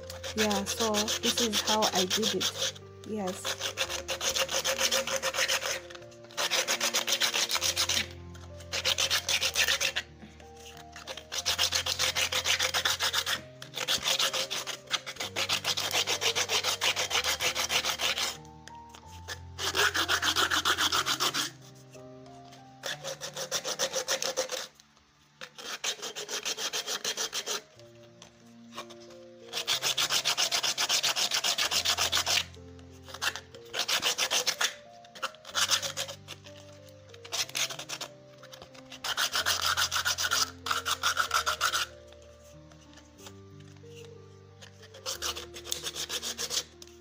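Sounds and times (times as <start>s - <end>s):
sandpaper scrubbing hard shell: 0.0s - 24.8s, 25.4s - 47.0s.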